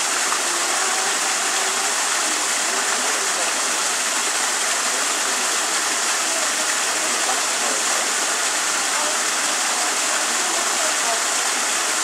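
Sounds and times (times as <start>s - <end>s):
water pouring into a pond: 0.0s - 12.0s.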